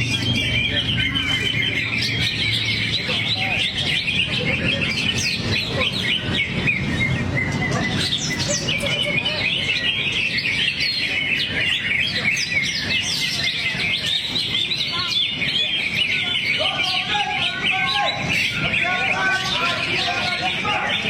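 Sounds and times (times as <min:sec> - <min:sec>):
bird chirping and whistling: 0:00.0 - 0:21.0.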